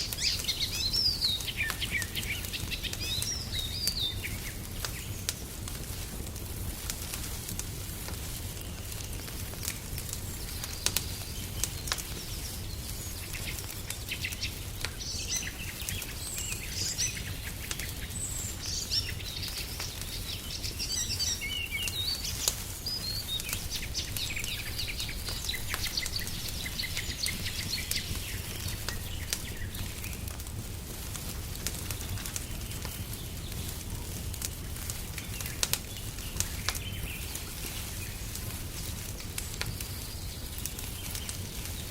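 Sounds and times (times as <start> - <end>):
songbirds chirping: 0.0 - 41.9
wood fire crackling and popping: 0.0 - 41.9.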